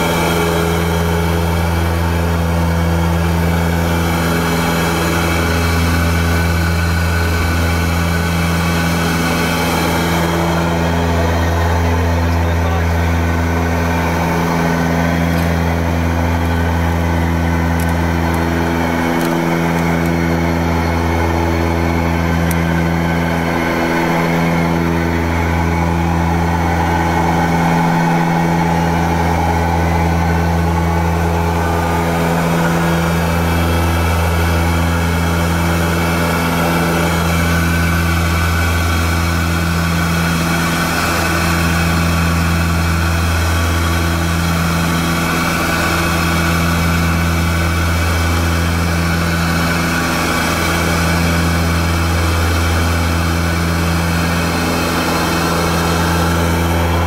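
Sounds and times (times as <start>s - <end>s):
turboprop engines droning: 0.0s - 57.0s.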